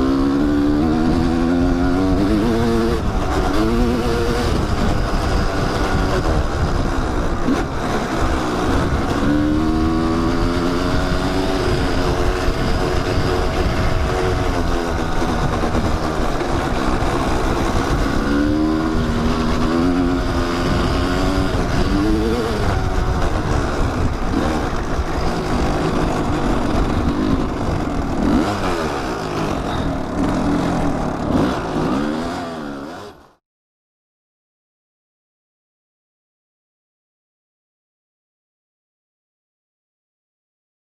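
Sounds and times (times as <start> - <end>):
dirt bike engine revving: 0.0 - 33.4.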